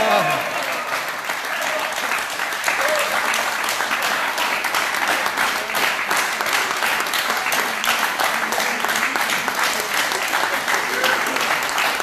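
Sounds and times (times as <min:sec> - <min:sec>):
crowd clapping: 0:00.0 - 0:12.0.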